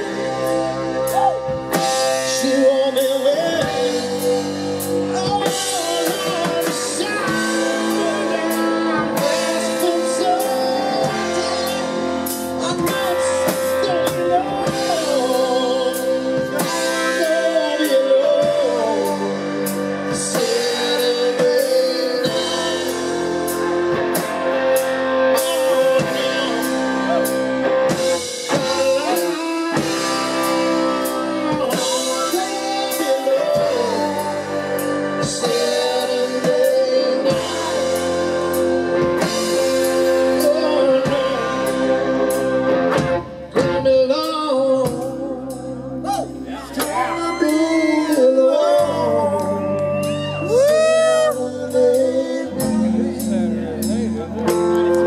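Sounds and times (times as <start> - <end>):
live blues-rock band: 0.0 - 55.0
man singing: 0.0 - 55.0.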